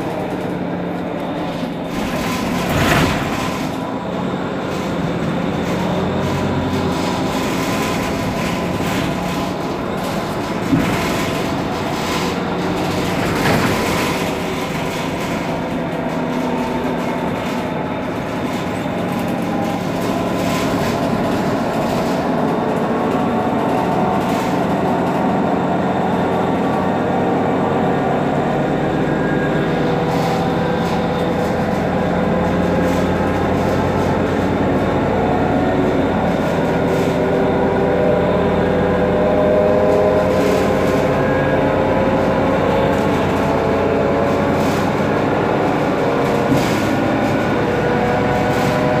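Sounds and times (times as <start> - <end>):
bus engine idling: 0.0 - 49.0.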